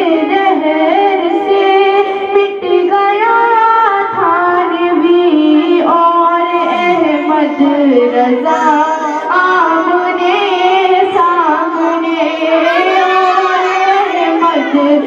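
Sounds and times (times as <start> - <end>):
woman singing devotional song: 0.0 - 15.0.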